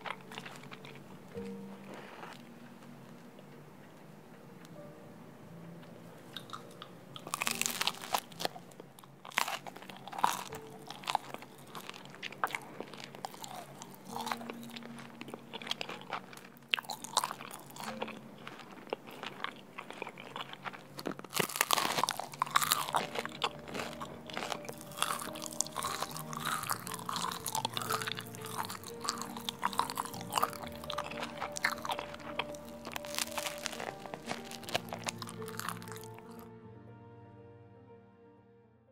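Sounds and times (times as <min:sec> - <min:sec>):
person chewing crunchy bread: 0:00.0 - 0:02.9, 0:06.2 - 0:36.4
soft background music: 0:00.0 - 0:38.9.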